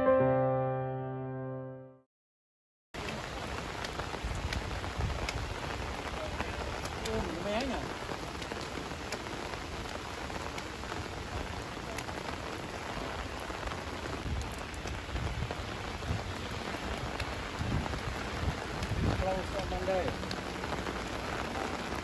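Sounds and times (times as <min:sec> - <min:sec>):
steady rain falling: 0:03.0 - 0:22.0.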